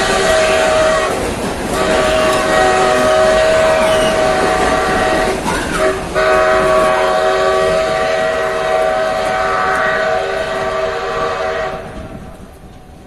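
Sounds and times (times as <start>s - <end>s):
locomotive multi-note horn: 0.0s - 12.3s
rumble of coaches rolling past: 0.0s - 13.0s.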